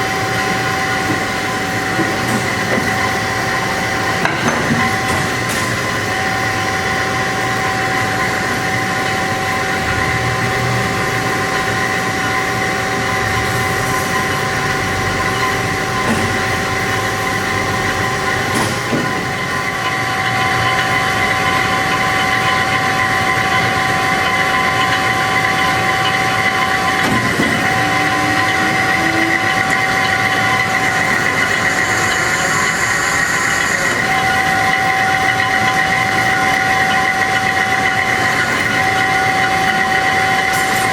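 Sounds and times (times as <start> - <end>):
band saw running: 0.0 - 40.9.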